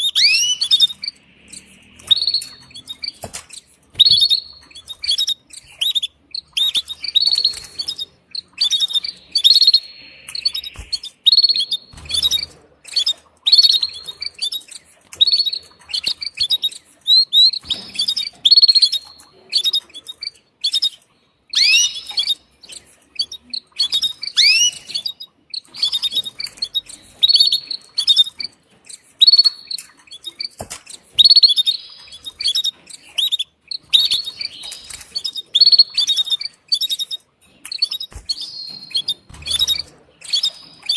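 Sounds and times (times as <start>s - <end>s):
canary chirping: 0.0s - 40.9s.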